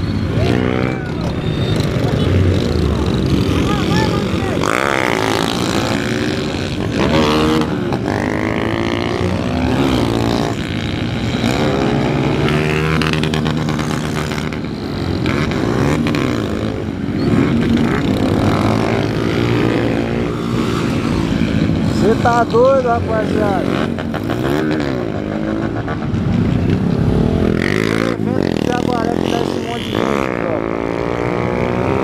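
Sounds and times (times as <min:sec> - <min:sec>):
motorcycles revving past: 0:00.0 - 0:32.0.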